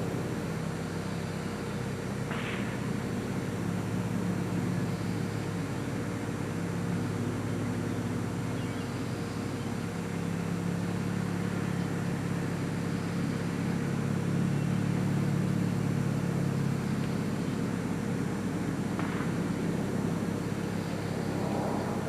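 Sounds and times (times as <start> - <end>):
vehicle rumbling: 0.0 - 22.0.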